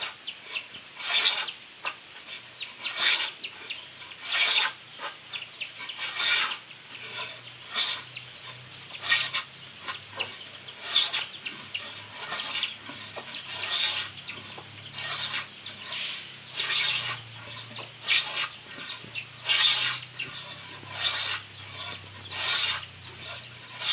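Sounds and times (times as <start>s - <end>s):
hand plane shaving wood: 0.4s - 1.5s, 2.4s - 3.4s, 4.1s - 23.9s.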